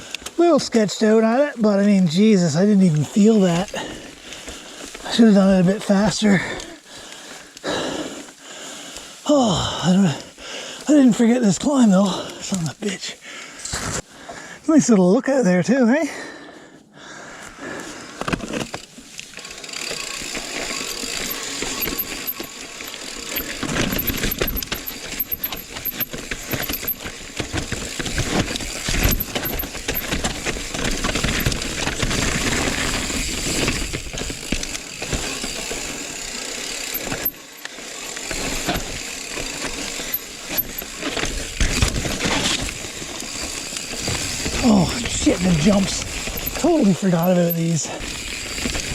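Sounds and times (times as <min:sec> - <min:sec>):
bike tyres rolling on dirt: 0:00.0 - 0:15.0, 0:15.6 - 0:48.9
bike chain and frame rattling: 0:02.1 - 0:10.4, 0:18.0 - 0:48.9.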